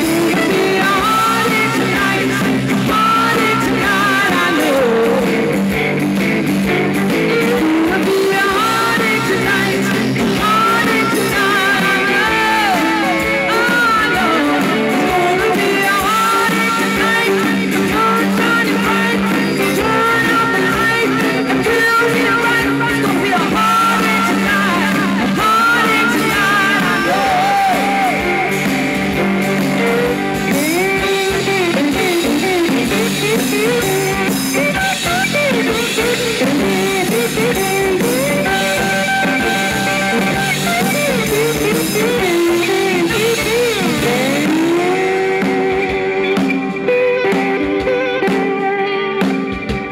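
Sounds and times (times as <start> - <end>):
bass: 0.0 - 49.9
drums: 0.0 - 49.9
electric guitars: 0.0 - 49.9
fiddle lead line: 0.0 - 49.9.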